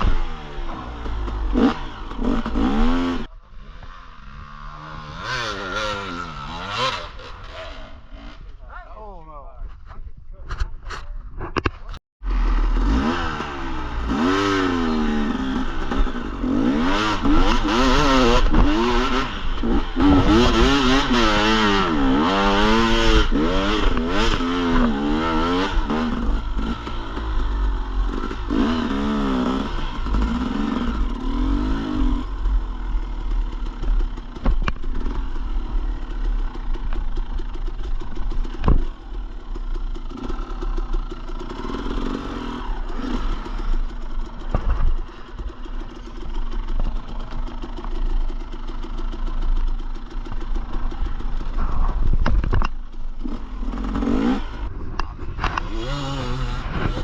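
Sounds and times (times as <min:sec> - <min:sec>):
dirt bike engine revving: 0:00.0 - 0:08.7, 0:12.2 - 0:57.0.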